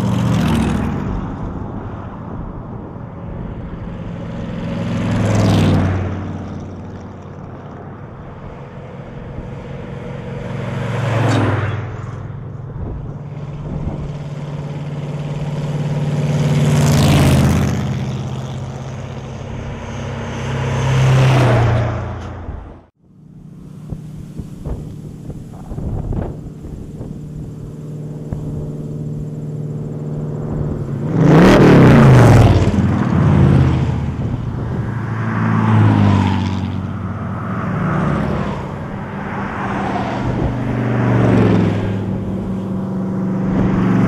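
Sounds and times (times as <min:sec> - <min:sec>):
hot rod trucks driving past: 0:00.0 - 0:44.0.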